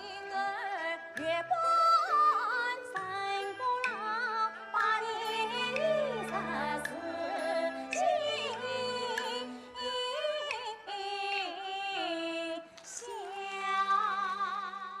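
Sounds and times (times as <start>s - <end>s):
accompanying music: 0.0s - 15.0s
women singing opera: 0.0s - 15.0s.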